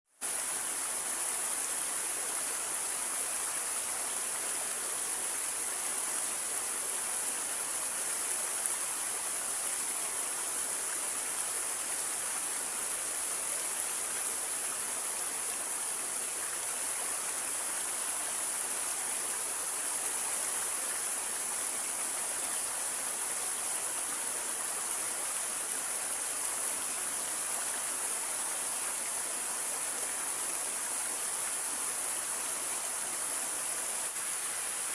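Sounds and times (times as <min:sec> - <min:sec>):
stream water splashing and rushing: 0:00.1 - 0:34.9.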